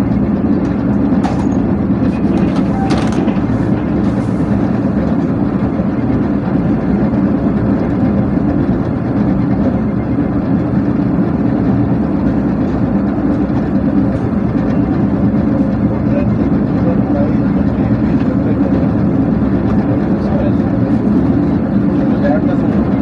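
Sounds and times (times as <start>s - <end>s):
train rumbling and rattling: 0.0s - 23.0s.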